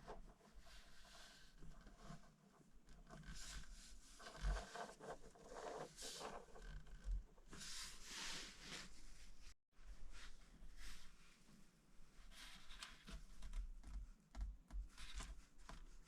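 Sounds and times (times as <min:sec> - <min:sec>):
rustling and scraping of handling: 0:00.0 - 0:16.0.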